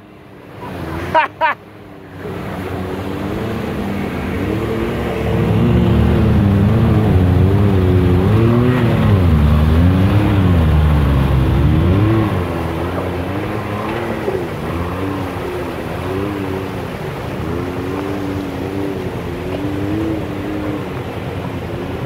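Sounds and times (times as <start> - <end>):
engine revving in uneven surges: 0.0 - 22.0
water splashing around wheels: 0.0 - 22.0.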